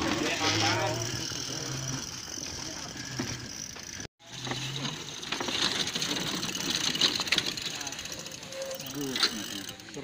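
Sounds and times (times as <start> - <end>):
cycle rickshaw rattling on gravel: 0.0 - 10.0.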